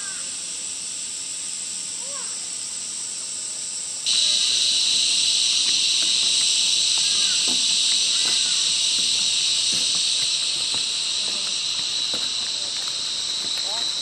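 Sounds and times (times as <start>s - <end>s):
cicadas buzzing: 0.0s - 14.0s.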